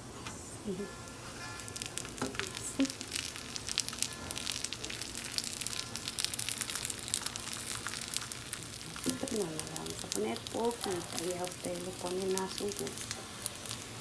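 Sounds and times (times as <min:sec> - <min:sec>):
food frying in hot fat: 0:00.5 - 0:14.0.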